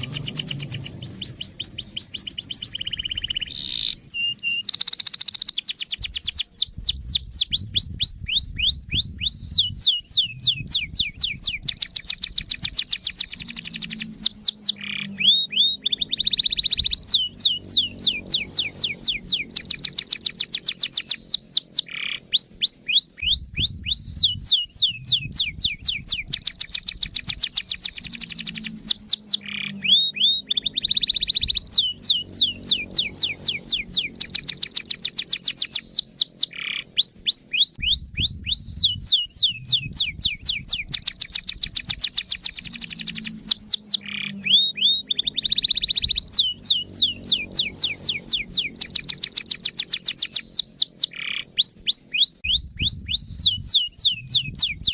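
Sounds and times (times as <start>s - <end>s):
canary song trills: 0.0s - 54.9s.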